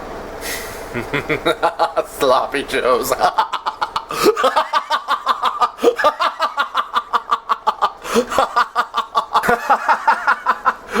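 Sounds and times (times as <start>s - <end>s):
person snickering: 0.9s - 2.1s, 3.2s - 11.0s.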